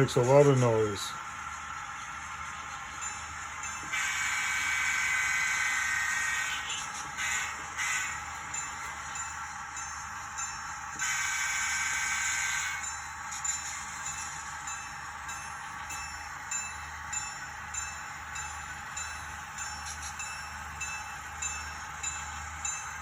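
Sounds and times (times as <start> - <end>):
steady running hum: 0.0 - 23.0.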